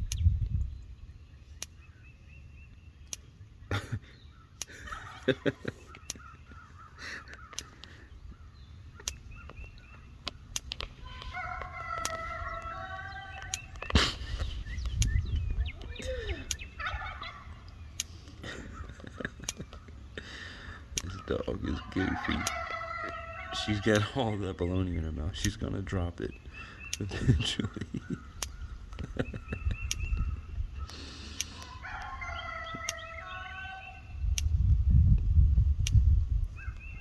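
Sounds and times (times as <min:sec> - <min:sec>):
sharp clicks: 0:00.0 - 0:00.6, 0:01.5 - 0:01.9, 0:02.6 - 0:33.1, 0:34.3 - 0:37.0
turkeys gobbling: 0:03.7 - 0:34.2.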